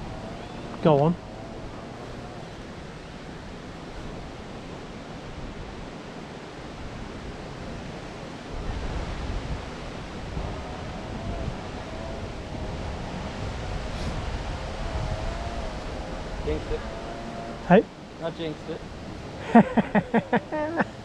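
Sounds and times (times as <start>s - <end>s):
water around boat: 0.0s - 21.0s
wind on microphone: 0.0s - 21.0s.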